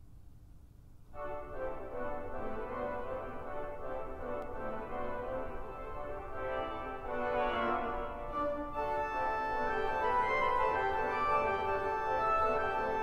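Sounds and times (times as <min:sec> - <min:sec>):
pipe organ chords: 0:01.2 - 0:13.0.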